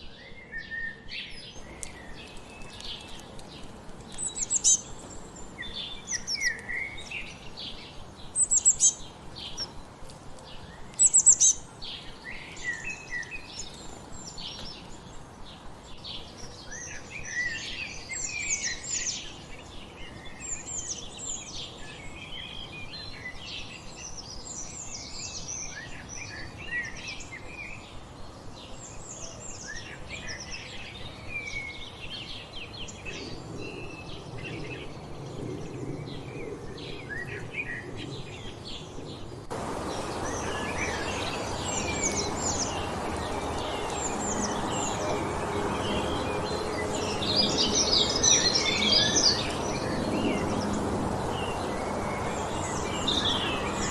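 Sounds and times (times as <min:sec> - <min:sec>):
songbirds singing and chirping: 0:00.0 - 0:53.9.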